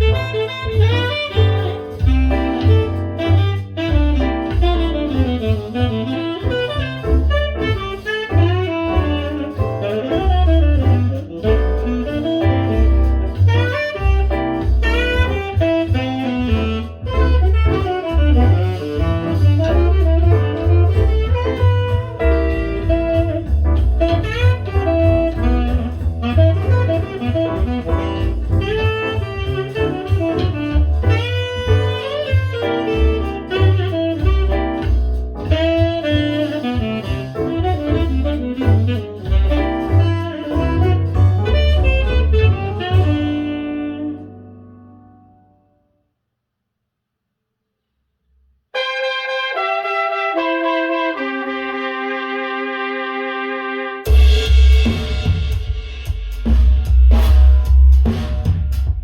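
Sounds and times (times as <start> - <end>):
pulsing bass line: 0.0 - 43.6, 54.1 - 59.0
jazz saxophone melody: 0.0 - 45.8, 48.7 - 59.0.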